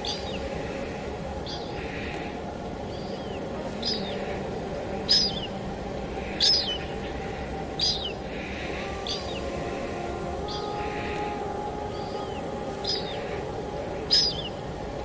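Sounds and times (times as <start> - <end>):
steady rainfall: 0.0 - 15.0
bird chirping: 1.4 - 14.8.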